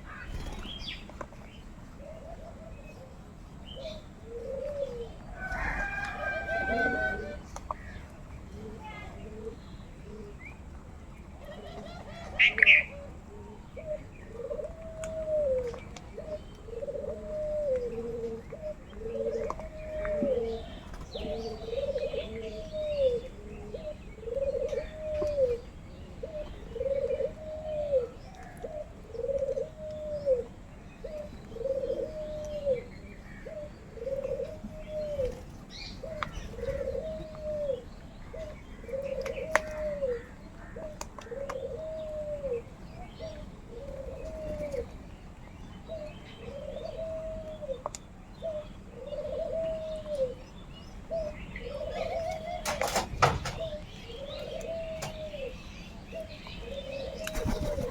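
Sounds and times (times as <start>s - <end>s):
bird calling: 0.0s - 10.6s, 11.4s - 57.9s.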